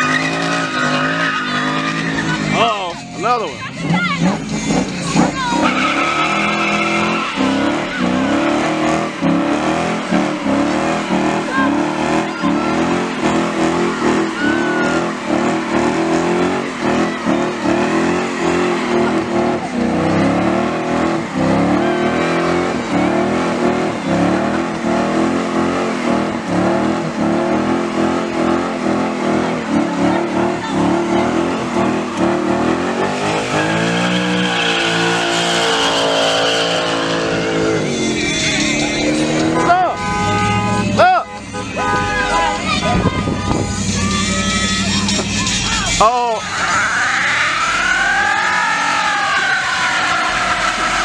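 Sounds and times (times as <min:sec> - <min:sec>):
car engine revving high: 0:00.0 - 0:51.0
tires squealing: 0:00.0 - 0:51.0.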